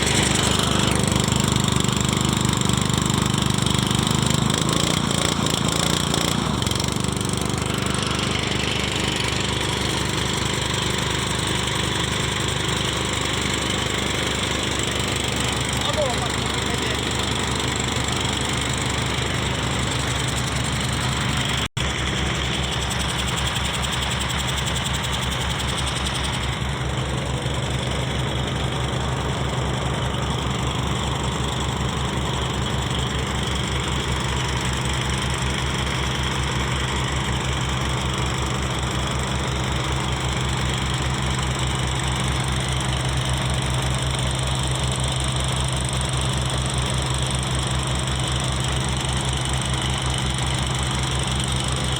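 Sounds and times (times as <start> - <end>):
diesel engine driving water pump: 0.0 - 51.9.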